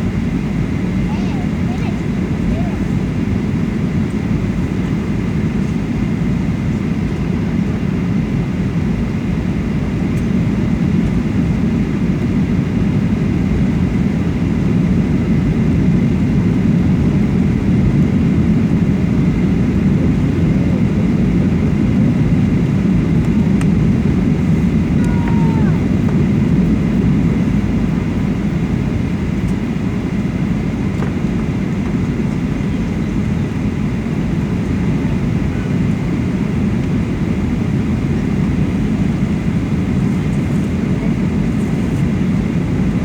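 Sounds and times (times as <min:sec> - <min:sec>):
airliner cabin roar: 0:00.0 - 0:43.0.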